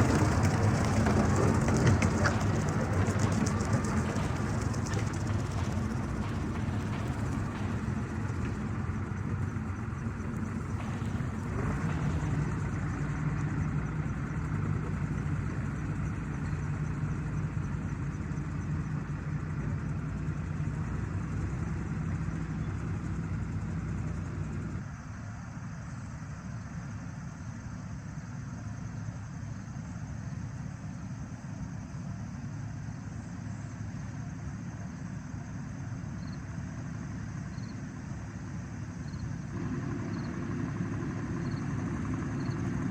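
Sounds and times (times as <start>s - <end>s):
tractor engine running: 0.0s - 24.9s, 31.4s - 42.9s.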